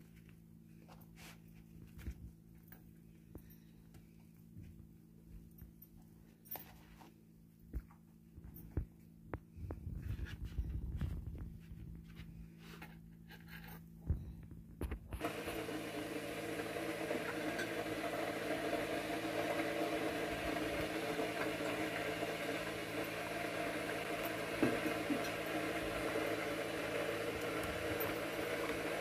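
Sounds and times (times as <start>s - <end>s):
fan whirring with hum: 0.0s - 29.0s.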